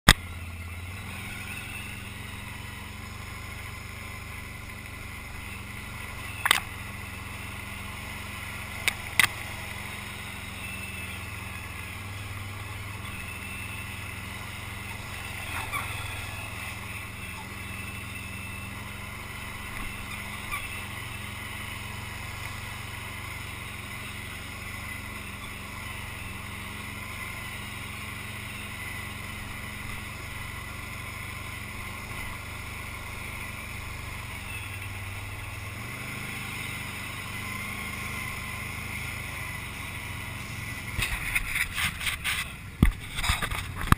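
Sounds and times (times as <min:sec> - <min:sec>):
off-road vehicle engine running: 0:00.1 - 0:43.9.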